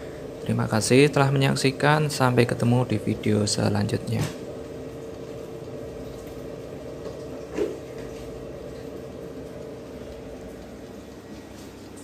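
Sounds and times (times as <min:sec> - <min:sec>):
air fryer whirring hum: 0:00.0 - 0:12.0
cooling fan: 0:00.0 - 0:12.0.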